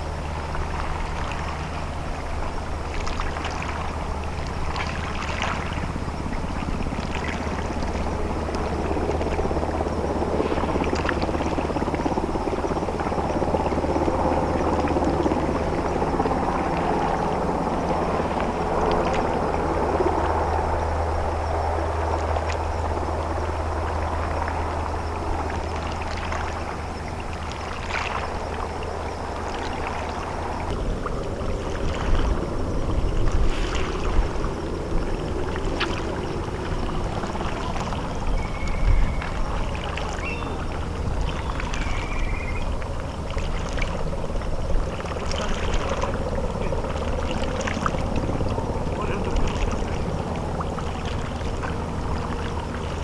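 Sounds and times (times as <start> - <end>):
water churning: 0.0 - 53.0.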